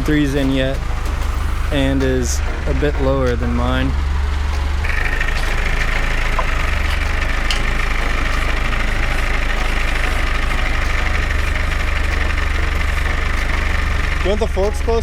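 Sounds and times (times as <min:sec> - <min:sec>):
engine idling: 0:00.0 - 0:15.0
high-pitched whine: 0:00.0 - 0:15.0.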